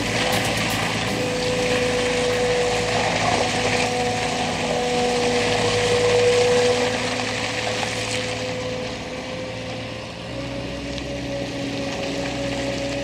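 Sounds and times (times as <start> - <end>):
loader diesel engine running: 0.0 - 13.0
steady whine: 0.0 - 13.0.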